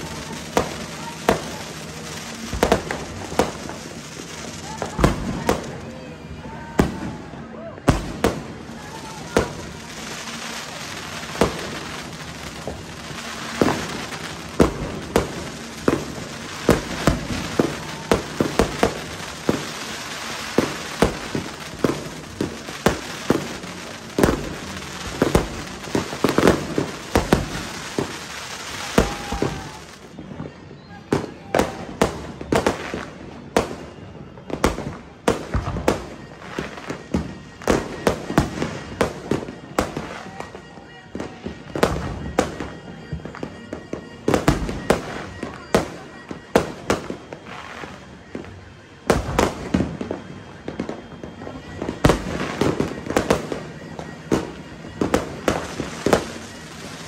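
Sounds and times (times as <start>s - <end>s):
fireworks bangs: 0.0s - 57.0s
fireworks crackle: 0.0s - 57.0s.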